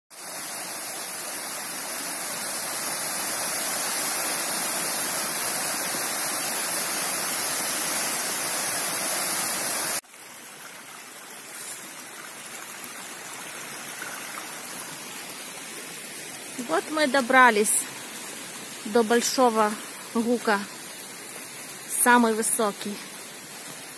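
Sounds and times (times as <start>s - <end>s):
waterfall rushing: 0.2s - 23.9s.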